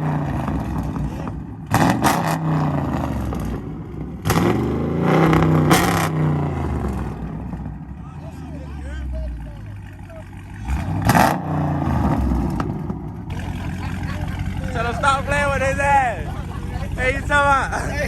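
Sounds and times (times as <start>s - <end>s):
car engine revving hard: 0.0s - 7.8s, 10.6s - 18.0s.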